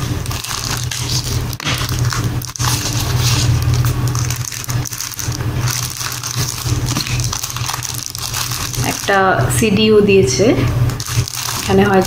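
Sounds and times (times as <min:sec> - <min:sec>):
paper booklets rustling in plastic: 0:00.0 - 0:09.5, 0:10.9 - 0:12.0
steady low hum: 0:00.0 - 0:12.0.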